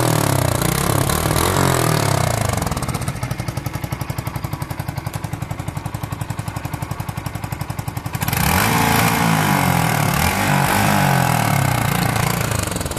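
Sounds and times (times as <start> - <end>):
motorcycle engine idling: 0.0 - 12.9
motorcycle engine revving: 0.0 - 12.9.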